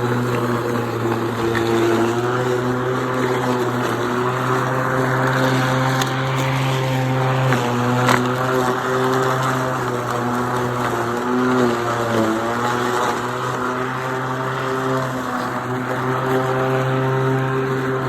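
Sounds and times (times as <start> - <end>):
lawn mower humming: 0.0 - 18.0.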